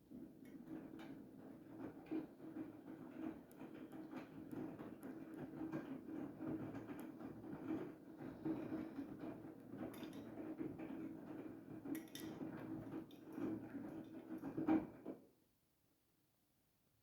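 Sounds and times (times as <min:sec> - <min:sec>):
washing machine motor hum: 0:00.0 - 0:15.1.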